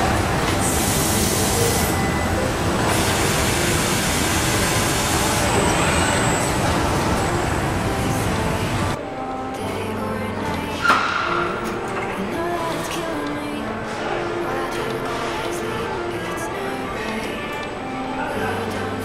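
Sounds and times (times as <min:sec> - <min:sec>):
conveyors running: 0:00.0 - 0:19.0
factory machinery: 0:00.0 - 0:19.0.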